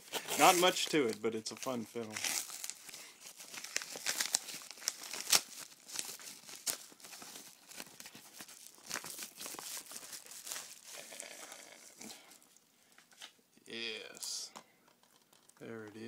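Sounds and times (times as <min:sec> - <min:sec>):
plastic crinkling and crackling: 0:00.0 - 0:13.3, 0:14.5 - 0:16.0.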